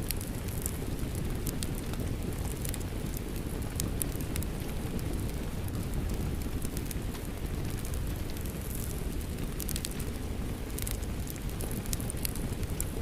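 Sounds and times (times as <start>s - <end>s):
fireplace fire crackling: 0.0s - 13.0s
rain: 0.0s - 13.0s.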